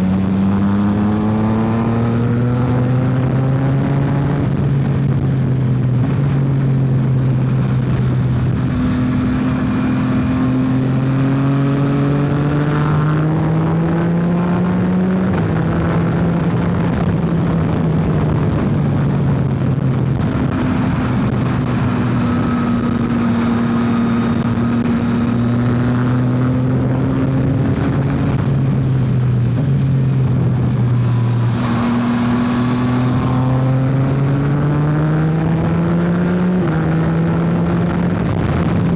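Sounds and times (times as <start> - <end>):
motorcycle engine pulling hard: 0.0 - 38.9
wind and road noise: 0.0 - 38.9.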